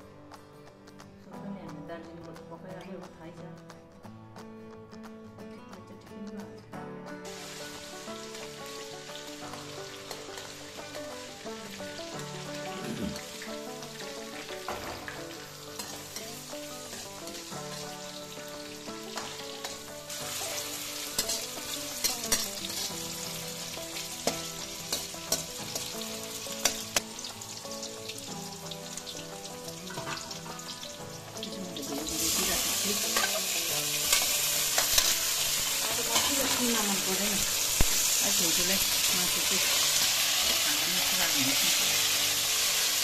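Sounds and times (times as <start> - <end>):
onions sizzling in hot oil: 7.2 - 43.0.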